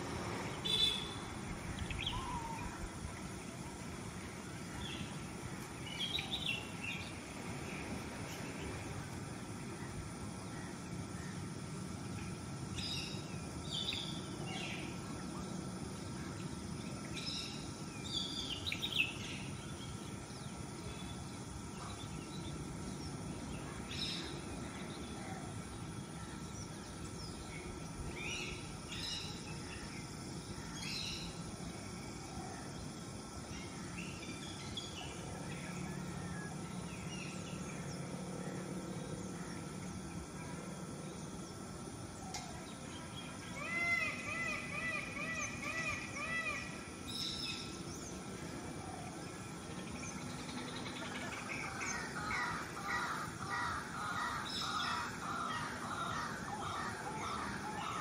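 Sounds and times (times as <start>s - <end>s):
low outdoor hum: 0.0s - 58.0s.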